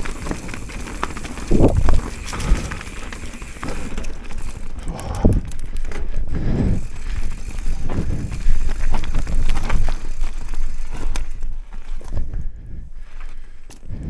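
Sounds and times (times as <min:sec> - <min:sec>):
bike tyres rumbling over rocks: 0:00.0 - 0:13.6
bike rattling and knocking: 0:00.0 - 0:13.8.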